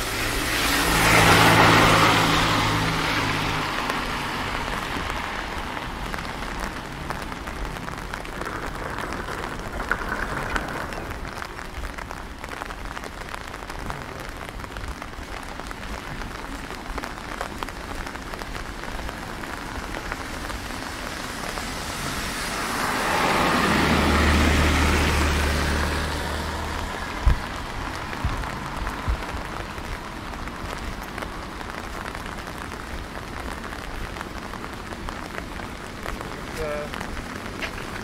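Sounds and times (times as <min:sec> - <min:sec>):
rain on wet pavement: 0:00.0 - 0:38.0
vehicle passing on wet road: 0:00.0 - 0:38.0.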